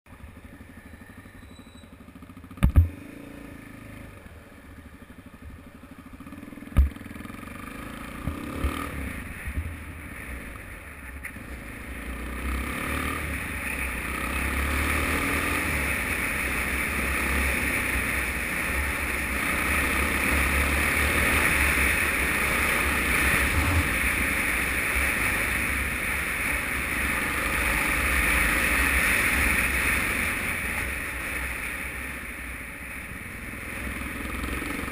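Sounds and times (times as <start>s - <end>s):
motorcycle engine: 0.1s - 34.9s.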